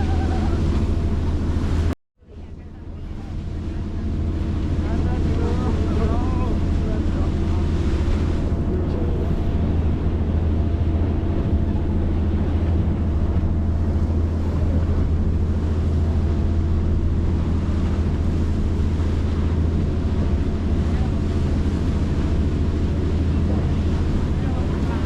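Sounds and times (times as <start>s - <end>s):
boat engines droning: 0.0s - 25.0s
water noise: 0.0s - 25.0s
wind: 0.0s - 25.0s.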